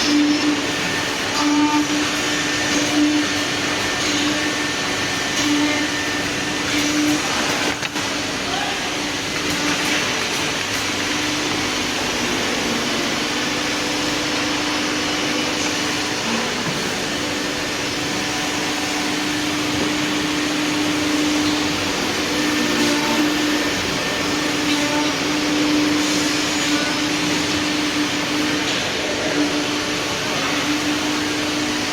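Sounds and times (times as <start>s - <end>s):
router machine rushing noise: 0.0s - 31.9s.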